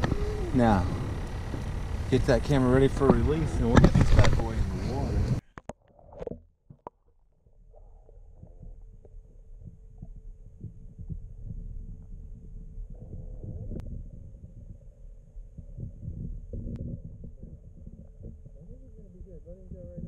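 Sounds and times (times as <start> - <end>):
faint steady hum: 0.0 - 5.5, 7.6 - 20.0
muffled underwater rumble: 0.0 - 20.0.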